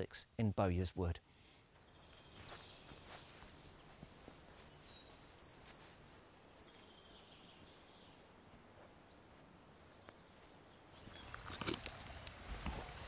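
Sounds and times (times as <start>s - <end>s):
distant birds chirping: 0.8s - 13.0s.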